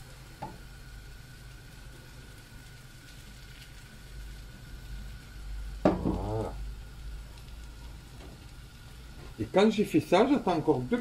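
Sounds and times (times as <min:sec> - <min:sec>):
omelette frying in pan: 0:00.0 - 0:11.0.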